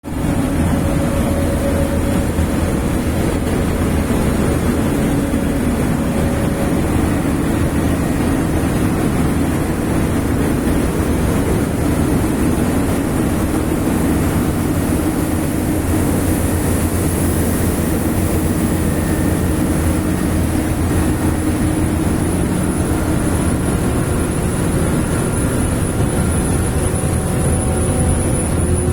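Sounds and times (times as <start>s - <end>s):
air compressor engine running: 0.0s - 28.9s.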